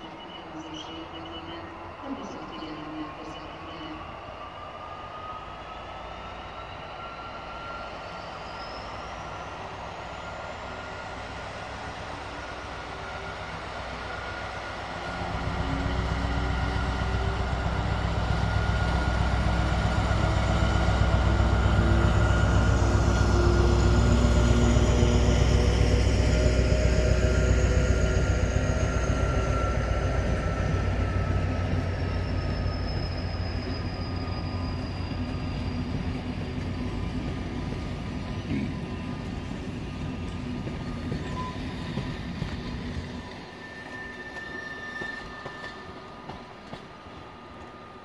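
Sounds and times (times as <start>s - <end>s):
diesel locomotive engine rumbling: 0.0s - 48.0s
train wheels squealing: 0.0s - 48.0s.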